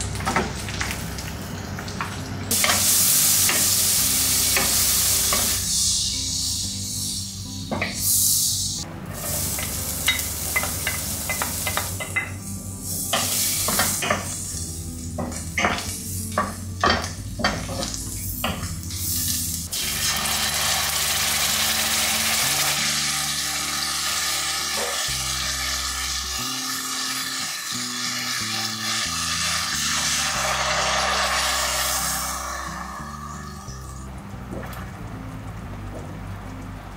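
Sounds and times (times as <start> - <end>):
butter and garlic sizzling: 0.0 - 34.5.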